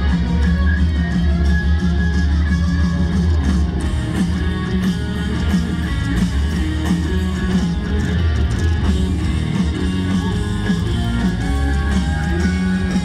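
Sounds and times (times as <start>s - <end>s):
electric guitar: 0.0s - 13.0s
live rock band: 0.0s - 13.0s.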